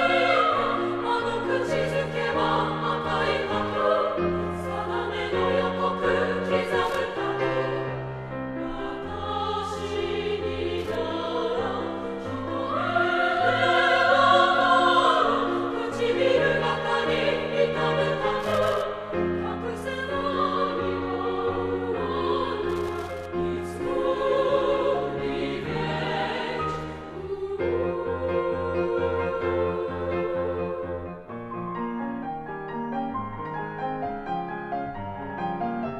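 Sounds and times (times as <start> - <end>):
women's chorus singing: 0.0 - 31.3.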